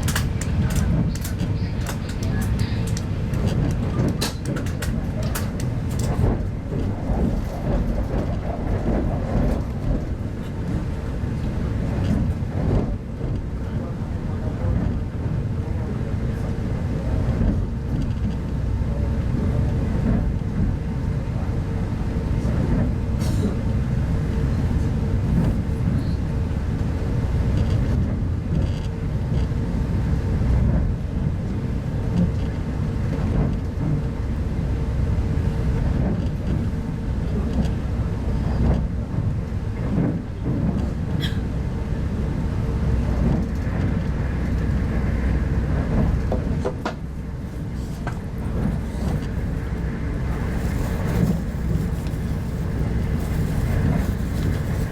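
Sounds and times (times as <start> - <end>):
train coach rumbling on track: 0.0 - 54.9.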